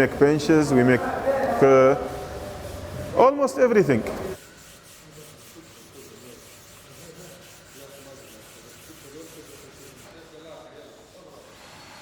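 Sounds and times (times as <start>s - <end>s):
sandpaper rubbing on wood: 0.4s - 12.0s.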